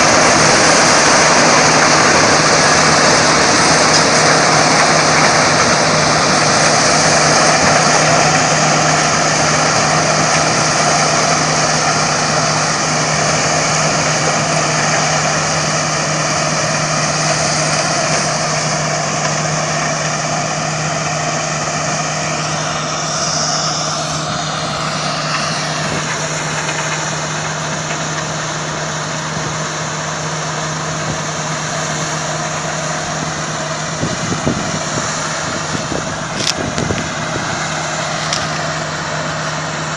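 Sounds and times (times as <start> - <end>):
harvester engine drone: 0.0 - 39.9.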